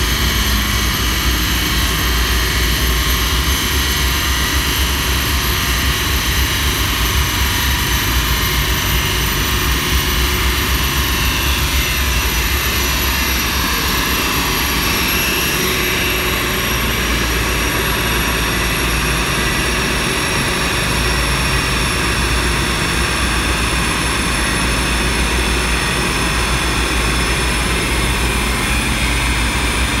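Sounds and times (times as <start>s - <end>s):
large cooling fan roaring: 0.0s - 30.0s.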